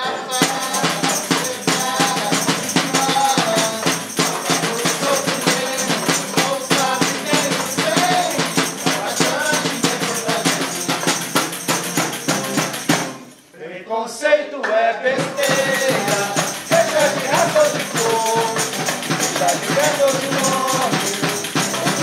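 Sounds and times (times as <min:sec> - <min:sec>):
song with tambourine and shaker beat: 0:00.0 - 0:13.6, 0:14.6 - 0:22.0.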